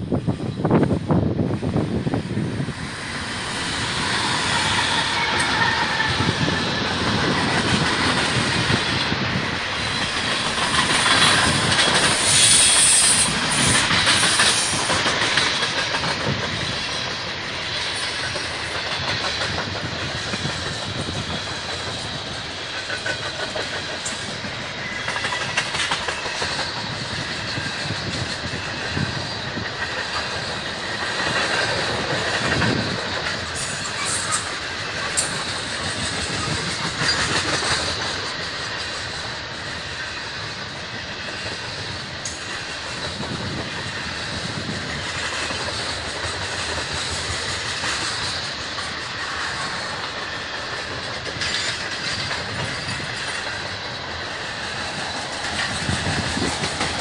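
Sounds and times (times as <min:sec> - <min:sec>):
diesel locomotive passing: 0:00.0 - 0:57.0
train cars rolling: 0:00.0 - 0:57.0
wheels clacking over rail joints: 0:02.0 - 0:57.0.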